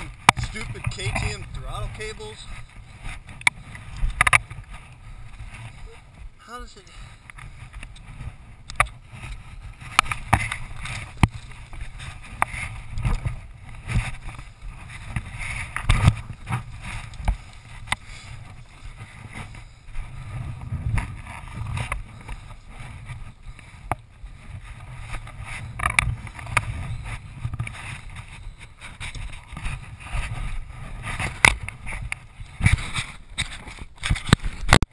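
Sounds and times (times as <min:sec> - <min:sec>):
knocks and scrapes: 0:00.0 - 0:06.3, 0:07.4 - 0:34.9
brush rustling: 0:00.0 - 0:34.6
ragged low rumble: 0:00.0 - 0:34.7.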